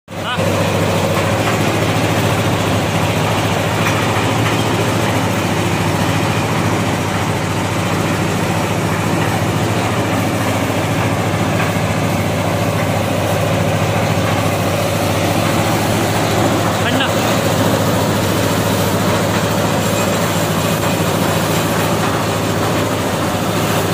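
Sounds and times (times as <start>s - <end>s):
diesel engine running: 0.1s - 23.9s.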